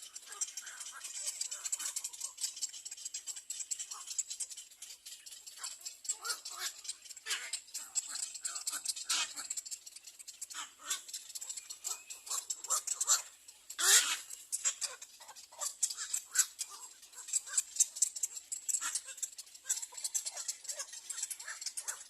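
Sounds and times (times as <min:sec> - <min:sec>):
bird squawk: 0:00.0 - 0:22.0
nestlings begging calls: 0:00.0 - 0:22.0.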